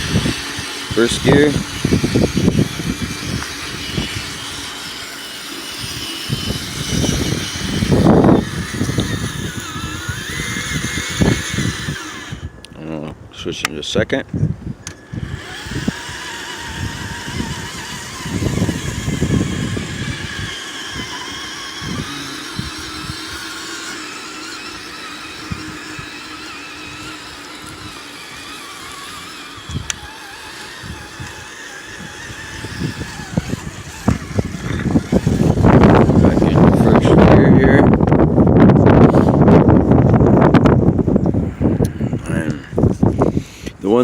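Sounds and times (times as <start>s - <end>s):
rc car motor and gears whining: 0.0s - 13.0s, 14.8s - 44.0s
wind buffeting microphone: 0.0s - 44.0s.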